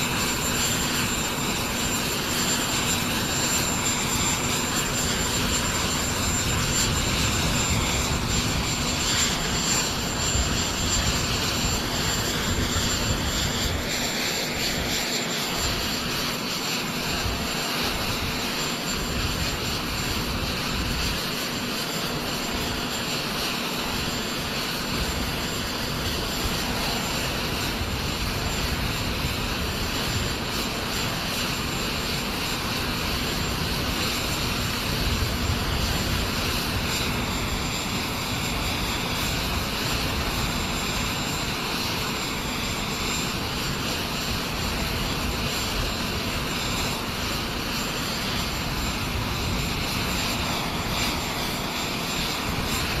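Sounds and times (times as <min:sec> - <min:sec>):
jet engine whine and rumble: 0:00.0 - 0:53.0.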